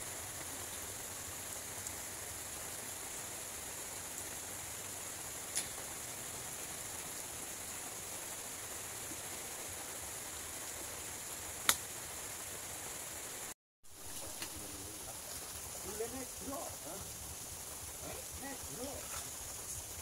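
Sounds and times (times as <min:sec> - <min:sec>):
outdoor night ambience hiss: 0:00.0 - 0:20.0.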